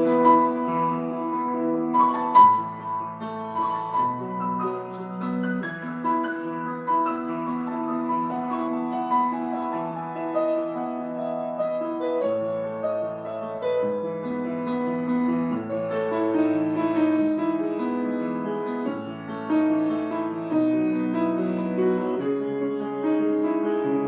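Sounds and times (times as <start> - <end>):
slow solo piano piece: 0.0 - 24.0.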